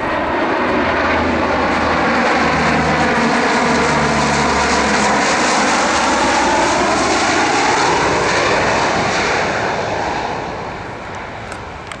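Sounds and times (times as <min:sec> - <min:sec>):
turboprop aircraft passing overhead: 0:00.0 - 0:12.0.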